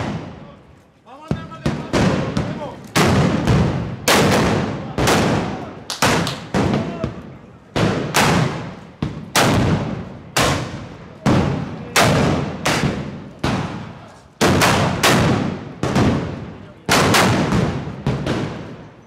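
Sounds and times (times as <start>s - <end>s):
black-powder gunshots with echo: 0.0s - 0.5s, 1.3s - 18.9s.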